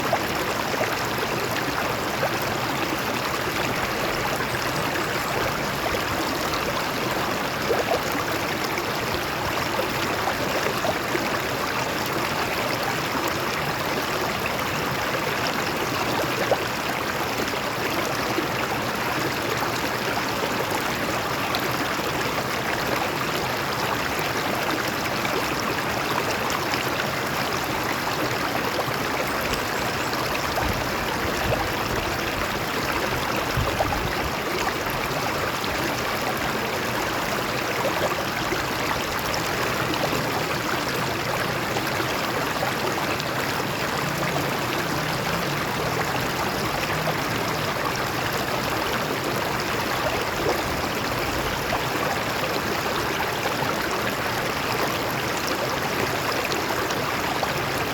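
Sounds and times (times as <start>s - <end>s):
stream splashing over rocks: 0.0s - 57.9s.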